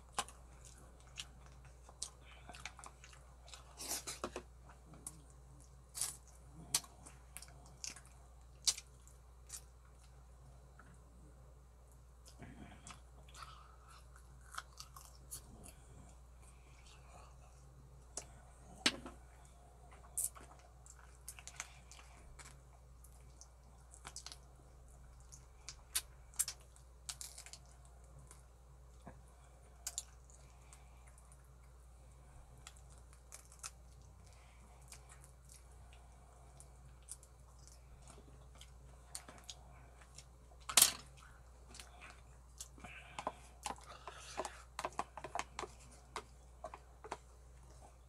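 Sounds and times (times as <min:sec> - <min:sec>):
person chewing meat: 0:00.0 - 0:11.0, 0:12.2 - 0:31.8, 0:32.4 - 0:48.0.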